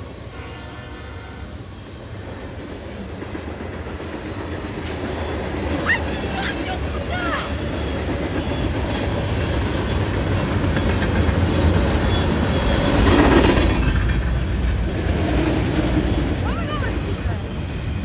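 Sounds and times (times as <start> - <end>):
train cars rumbling past: 0.0 - 18.0.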